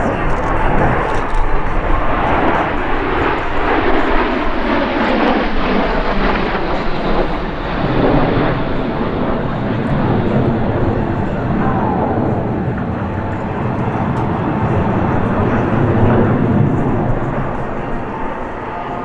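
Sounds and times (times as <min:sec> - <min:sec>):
jets flying past: 0:00.0 - 0:19.0.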